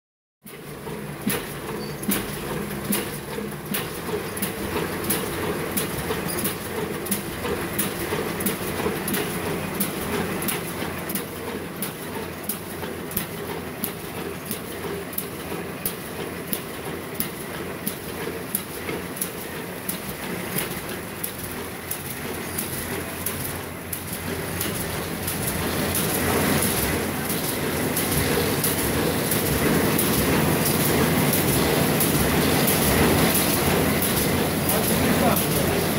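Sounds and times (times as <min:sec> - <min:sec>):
machine clatter: 0:00.4 - 0:35.9
sharp machine clack: 0:00.4 - 0:35.9.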